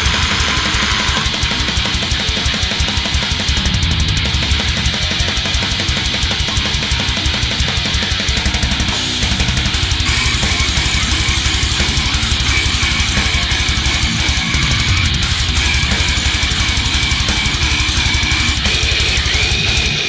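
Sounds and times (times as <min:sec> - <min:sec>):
fast kick-drum beats: 0:00.0 - 0:20.0
heavy metal music: 0:00.0 - 0:20.0
rapid cymbal hits: 0:00.0 - 0:20.0.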